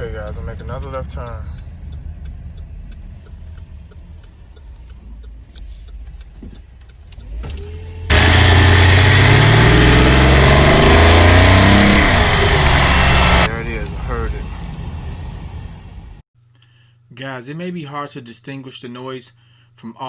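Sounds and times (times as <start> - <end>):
car engine running: 0.0 - 16.2.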